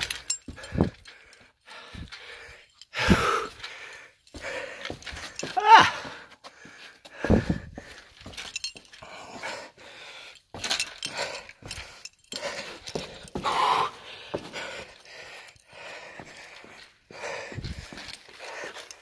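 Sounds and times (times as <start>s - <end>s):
person breathing hard: 0.0s - 19.0s.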